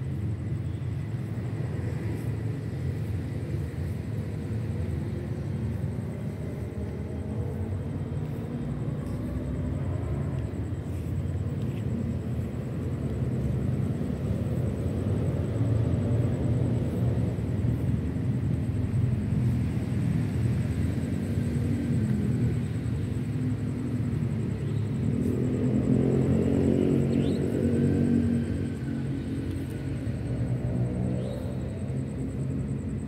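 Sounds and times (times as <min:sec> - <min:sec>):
road traffic rumble: 0:00.0 - 0:33.0
engine passing by: 0:01.2 - 0:33.0.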